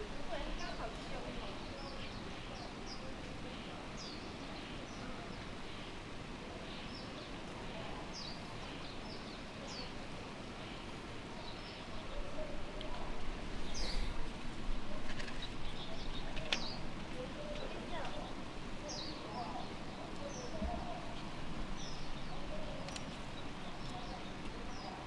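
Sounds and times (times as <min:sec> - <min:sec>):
small birds chirping: 0:00.0 - 0:25.0
steady background hiss: 0:00.0 - 0:25.0.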